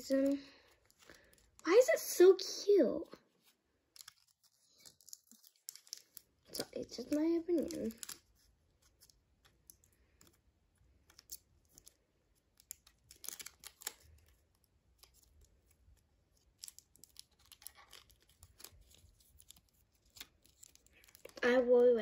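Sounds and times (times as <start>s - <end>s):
faint rustles and light clicks: 3.0s - 22.0s.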